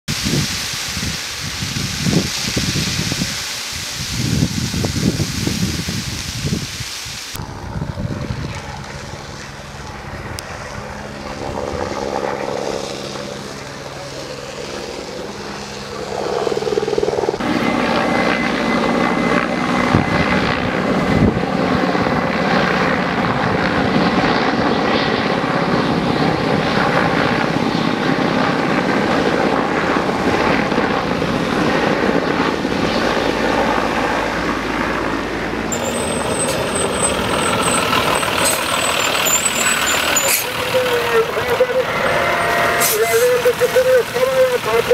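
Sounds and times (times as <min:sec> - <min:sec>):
fire truck passing: 0:07.3 - 0:44.9
helicopter rotor and engine: 0:07.3 - 0:44.9.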